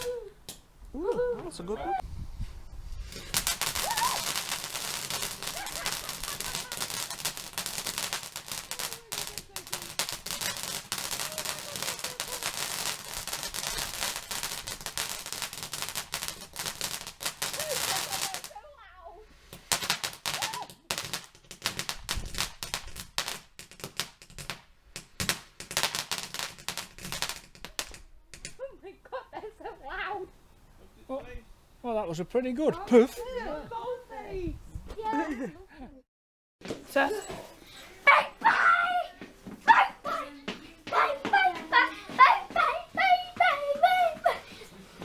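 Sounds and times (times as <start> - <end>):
fireworks crackling: 0.0 - 28.6, 29.8 - 34.4, 36.6 - 45.0.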